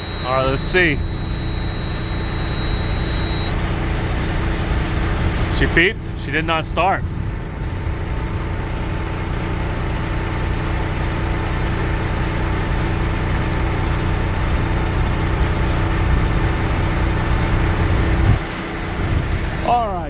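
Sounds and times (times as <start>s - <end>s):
faint steady hum: 0.0s - 20.0s
truck diesel engine idling: 0.0s - 20.0s.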